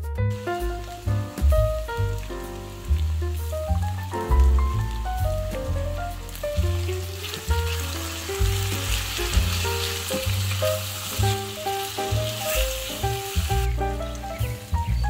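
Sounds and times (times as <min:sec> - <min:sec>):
background music: 0:00.0 - 0:15.0
potatoes sizzling in frying pan: 0:00.3 - 0:15.0.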